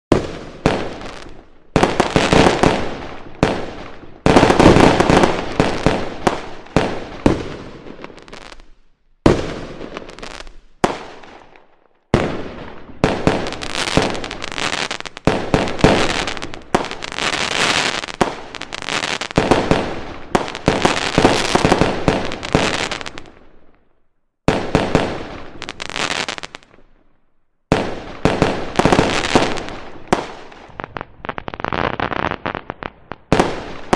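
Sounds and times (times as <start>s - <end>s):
fireworks crackling bangs: 0.1s - 11.5s, 12.1s - 23.4s, 27.7s - 33.9s.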